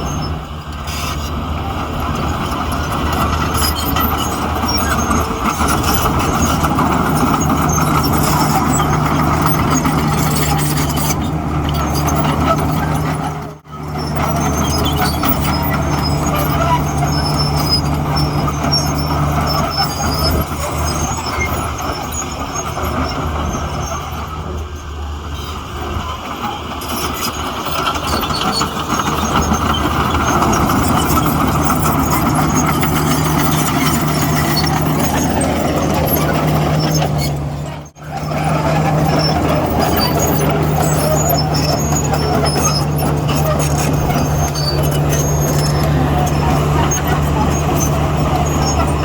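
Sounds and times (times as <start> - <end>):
diesel machinery engine drone: 0.0 - 49.0.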